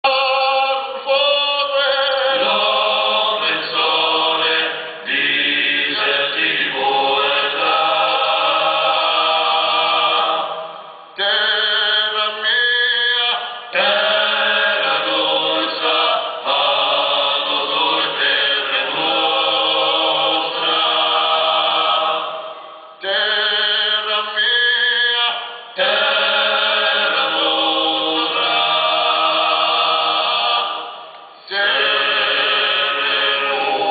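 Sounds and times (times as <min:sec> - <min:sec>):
male choir singing a cappella: 0:00.0 - 0:33.9.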